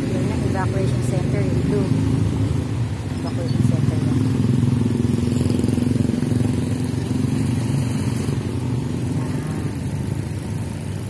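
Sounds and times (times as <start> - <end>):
motorcycle engine running: 0.0 - 11.0
street traffic: 0.0 - 11.0.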